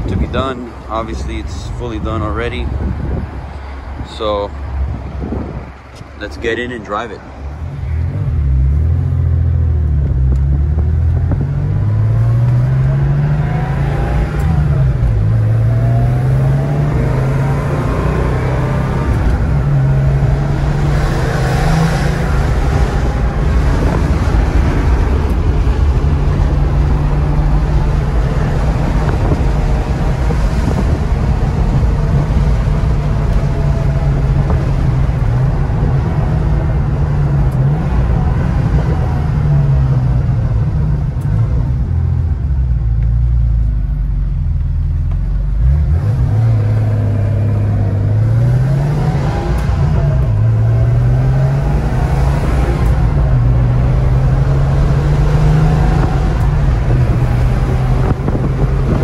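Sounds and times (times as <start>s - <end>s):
car engine heard from cabin: 4.9s - 59.0s.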